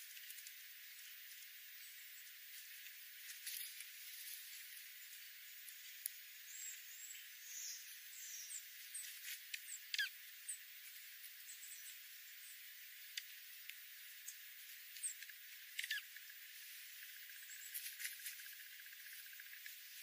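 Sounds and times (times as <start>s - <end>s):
faint hiss: 0.0s - 20.0s
small birds chirping: 0.0s - 20.0s.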